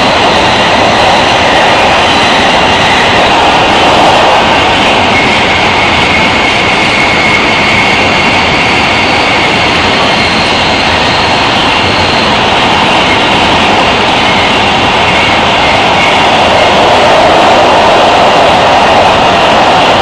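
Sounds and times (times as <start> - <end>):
subway wheels roaring on rail: 0.0 - 20.0.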